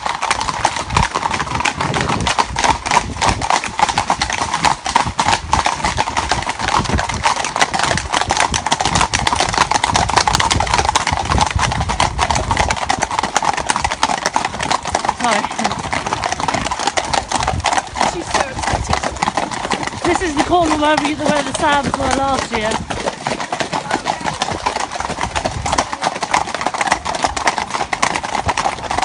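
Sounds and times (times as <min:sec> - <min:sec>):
horse hooves clip-clopping: 0:00.0 - 0:29.0.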